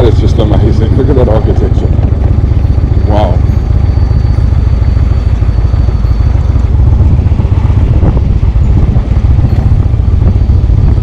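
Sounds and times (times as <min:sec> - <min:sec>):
motorcycle engine rumbling: 0:00.0 - 0:11.0
wind buffeting: 0:00.0 - 0:11.0.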